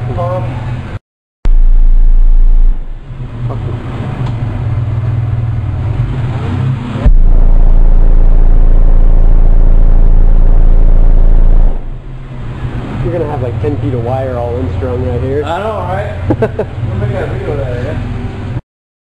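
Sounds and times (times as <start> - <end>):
subwoofer deep bass tone: 1.5 - 16.8.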